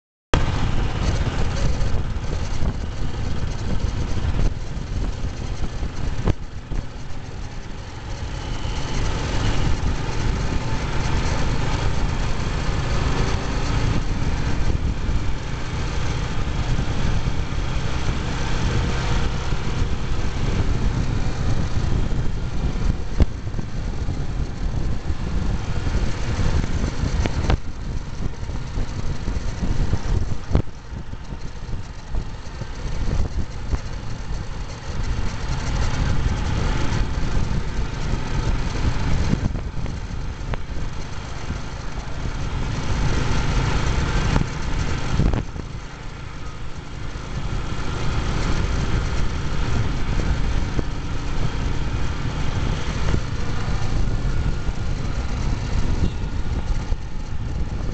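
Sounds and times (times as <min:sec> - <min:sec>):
motorcycle engine at high speed: 0:00.3 - 0:57.9
wind rushing from riding fast: 0:00.4 - 0:57.9.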